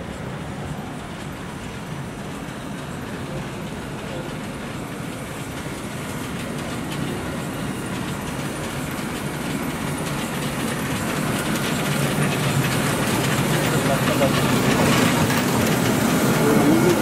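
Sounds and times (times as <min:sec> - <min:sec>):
steam train rolling: 0:00.0 - 0:17.0
train wheels clicking on rails: 0:00.0 - 0:17.0.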